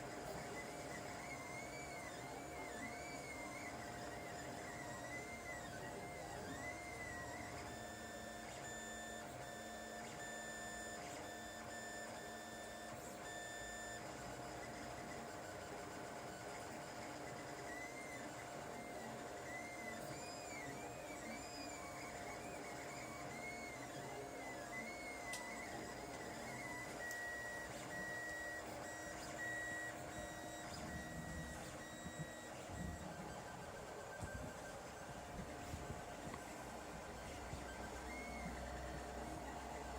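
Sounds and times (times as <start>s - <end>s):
steady printer hum: 0.0s - 39.9s.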